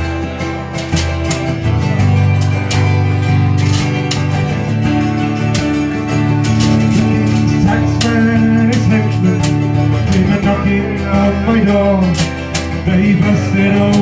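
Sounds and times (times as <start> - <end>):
acoustic guitar strumming: 0.0 - 14.0
folk band playing: 0.0 - 14.0.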